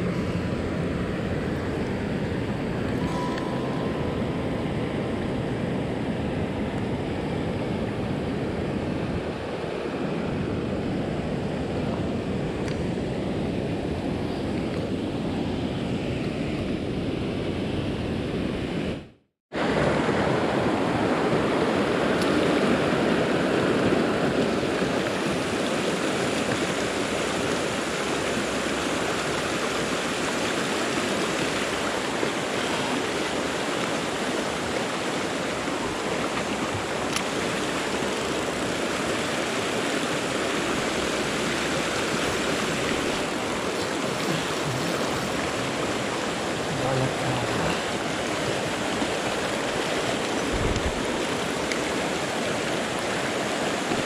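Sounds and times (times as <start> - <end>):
stream rushing over rocks: 0.0 - 15.4, 19.6 - 54.0.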